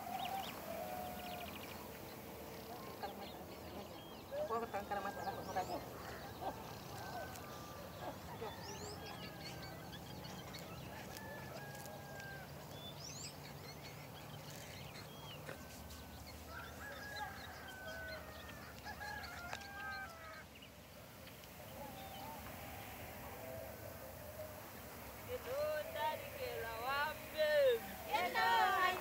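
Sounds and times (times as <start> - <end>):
faint birds chirping and whistling: 0.0 - 23.5.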